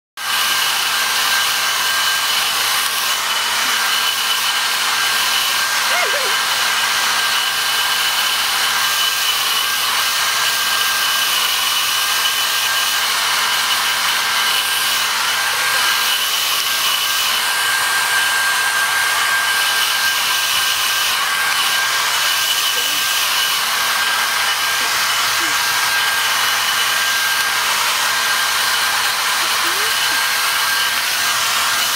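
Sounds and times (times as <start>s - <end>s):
hair dryer running: 0.2s - 31.9s.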